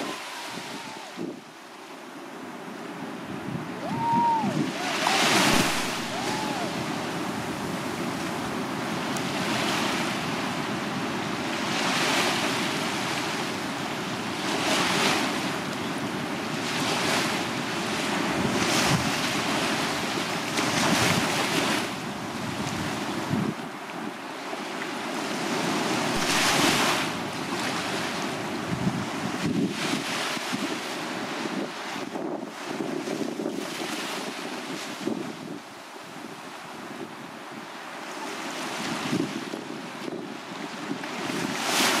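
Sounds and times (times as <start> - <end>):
small waves breaking on sand: 0.0 - 42.0.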